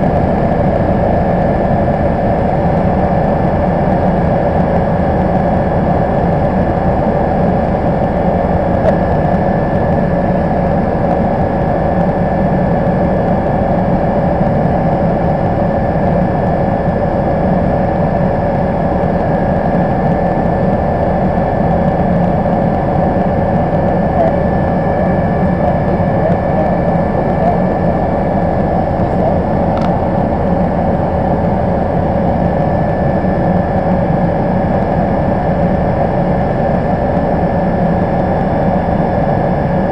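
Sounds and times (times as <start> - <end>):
helicopter cabin engine hum: 0.0 - 39.9.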